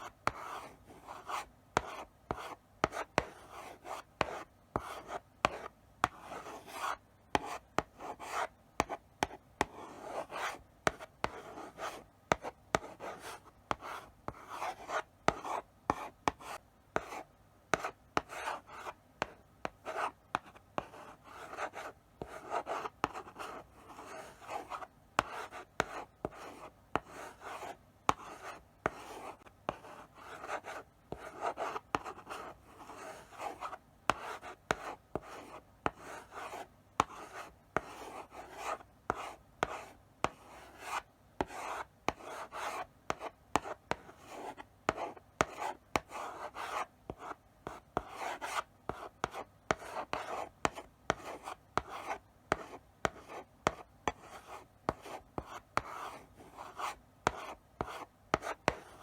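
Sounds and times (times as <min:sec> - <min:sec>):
chalk scratching on blackboard: 0:00.0 - 0:59.0
chalk tapping on board: 0:00.0 - 0:59.0.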